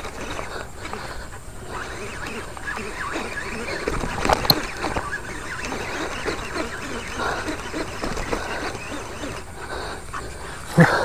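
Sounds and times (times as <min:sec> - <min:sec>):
sharp reel click: 0:00.0 - 0:09.6
fishing reel being cranked: 0:00.0 - 0:10.2.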